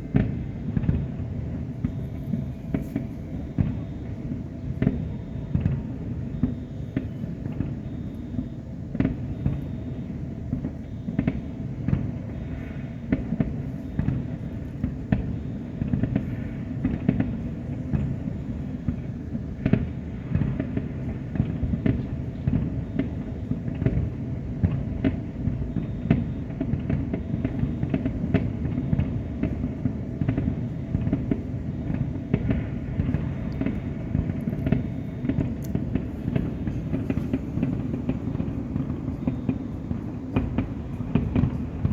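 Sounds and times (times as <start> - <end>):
firework bangs: 0.0 - 41.9.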